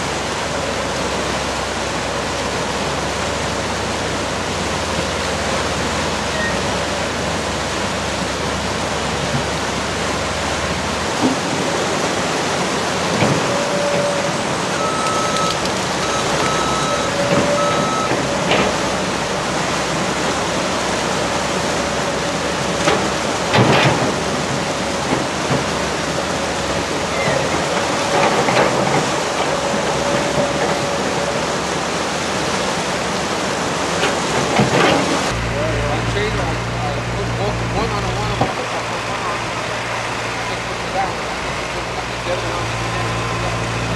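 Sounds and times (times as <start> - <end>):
excavator working: 0.0 - 43.9
river rushing: 0.0 - 43.9.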